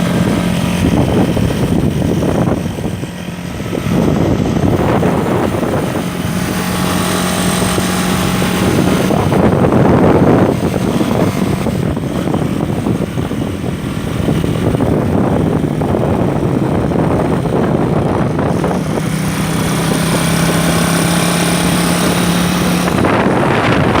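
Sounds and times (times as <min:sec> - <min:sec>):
engine running: 0:00.0 - 0:24.0
loud rushing noise: 0:00.0 - 0:24.0.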